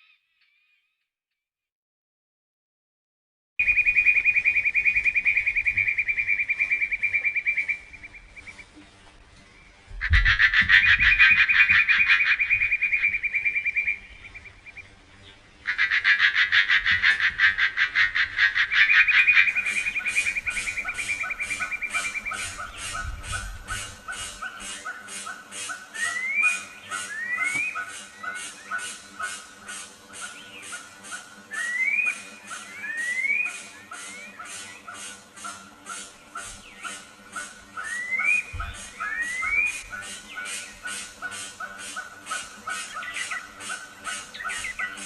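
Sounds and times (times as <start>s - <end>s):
rapid pulsed trilling call: 3.6s - 8.7s, 9.6s - 45.0s.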